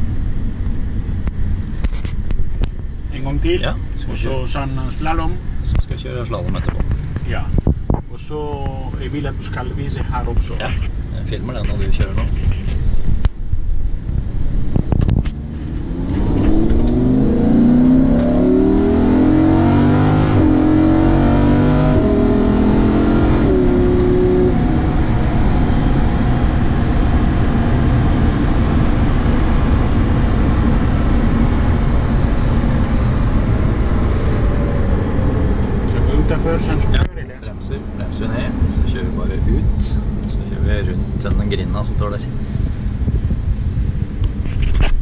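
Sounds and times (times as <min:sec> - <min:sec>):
wind and tyre drone: 0:00.0 - 0:45.0
car engine accelerating with upshifts: 0:04.9 - 0:45.0.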